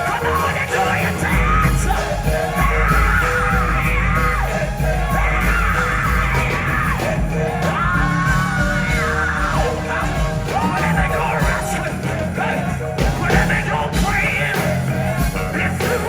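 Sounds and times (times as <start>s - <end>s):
gospel band playing: 0.0s - 16.0s
heavy bass and drums: 0.0s - 16.0s
person singing high vocal runs: 0.0s - 16.0s.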